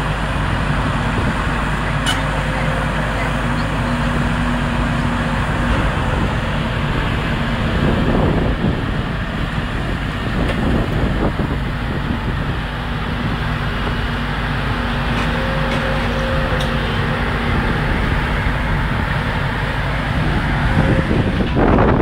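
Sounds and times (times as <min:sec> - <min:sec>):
excavator diesel engine: 0:00.0 - 0:22.0
loud rush of noise: 0:00.0 - 0:22.0.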